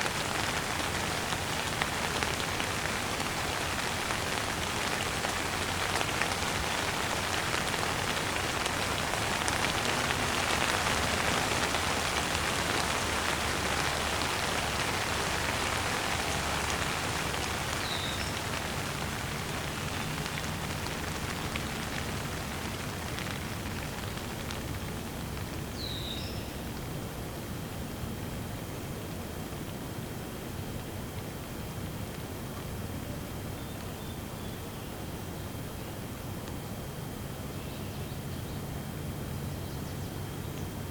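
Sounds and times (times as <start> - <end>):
rain pattering: 0.0 - 34.4.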